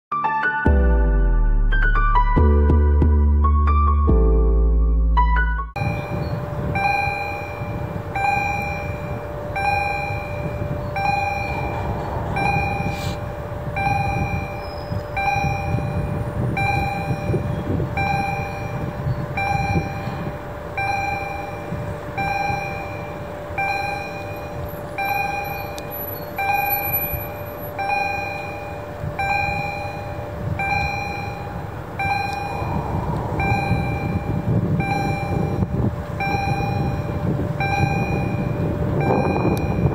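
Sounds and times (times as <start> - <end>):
level crossing warning bell: 5.8 - 39.9.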